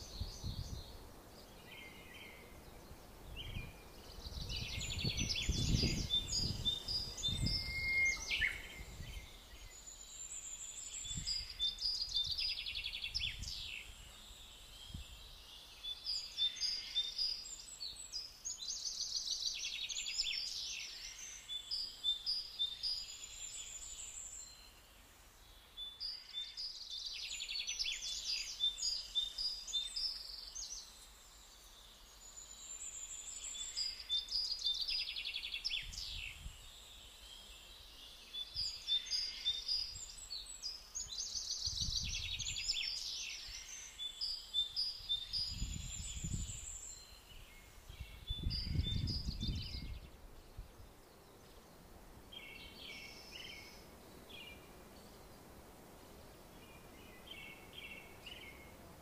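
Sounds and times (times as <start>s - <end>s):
small birds singing: 0.0s - 59.0s.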